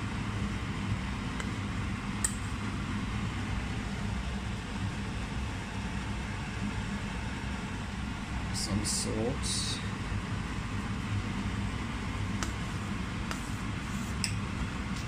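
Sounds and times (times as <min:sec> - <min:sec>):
low hum with hiss: 0:00.0 - 0:15.0.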